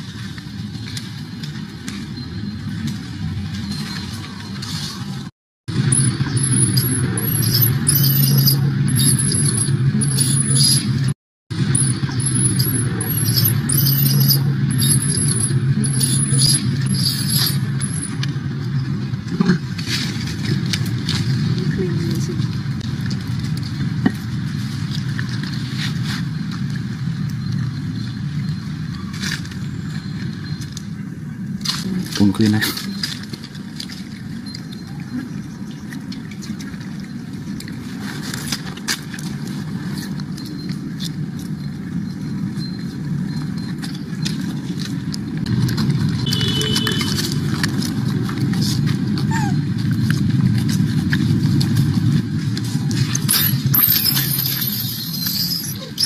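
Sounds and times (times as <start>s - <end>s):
outdoor low rumble: 0.0s - 56.0s.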